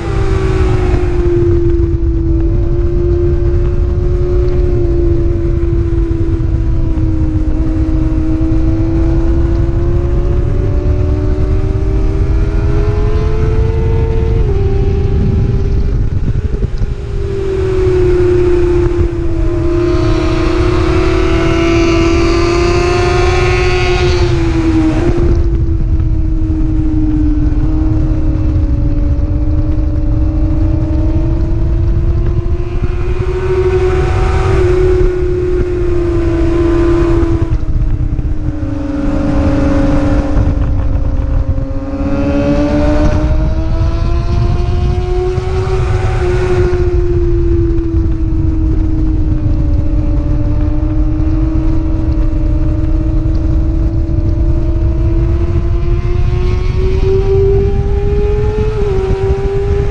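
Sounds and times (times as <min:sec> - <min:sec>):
racing motorcycle engine revving: 0:00.0 - 0:59.9
rush of wind noise: 0:00.0 - 0:59.9.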